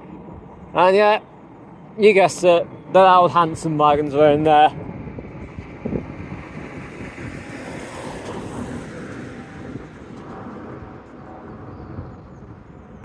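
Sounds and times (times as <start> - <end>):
wind on microphone: 2.4 - 13.0.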